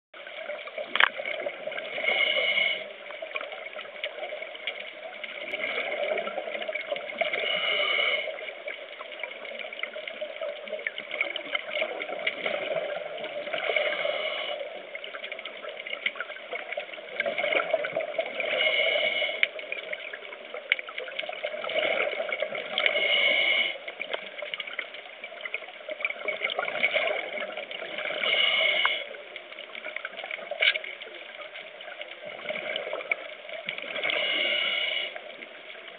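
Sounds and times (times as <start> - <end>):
exhaled bubbles gurgling underwater: 0.2 - 35.9
faint crackling clicks: 0.2 - 35.9
water murmur: 0.2 - 35.9.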